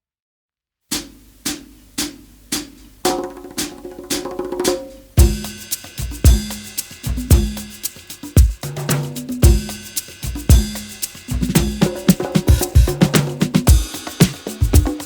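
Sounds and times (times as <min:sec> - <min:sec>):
full drum kit: 0:00.9 - 0:15.0
sparse percussive beat: 0:00.9 - 0:15.0.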